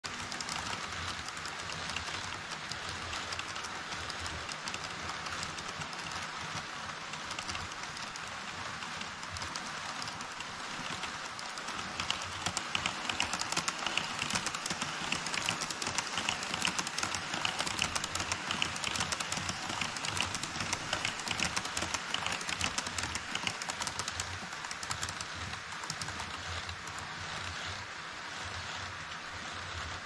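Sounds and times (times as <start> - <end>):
model train wheels clicking: 0.0 - 30.0.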